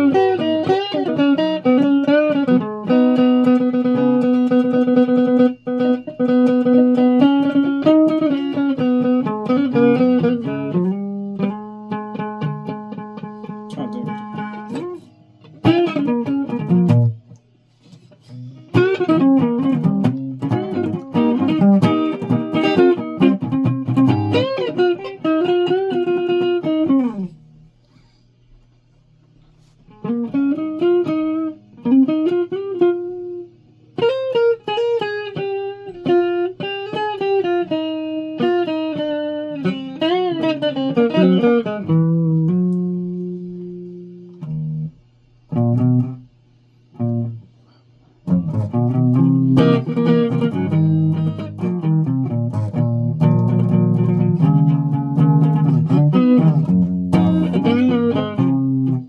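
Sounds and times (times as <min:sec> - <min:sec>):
solo guitar playing: 0:00.0 - 0:27.6, 0:29.6 - 0:46.3, 0:46.9 - 0:59.0.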